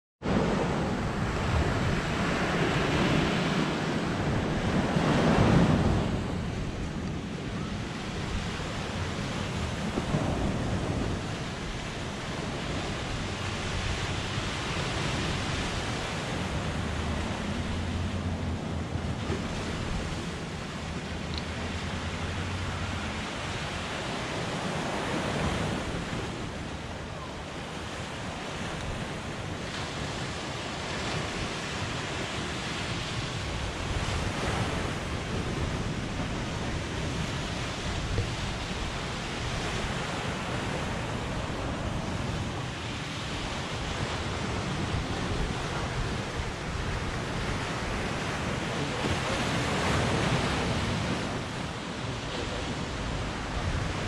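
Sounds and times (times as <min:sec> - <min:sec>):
surf breaking on rocky beach: 0:00.2 - 0:54.0
wind rumbling on microphone: 0:00.2 - 0:54.0.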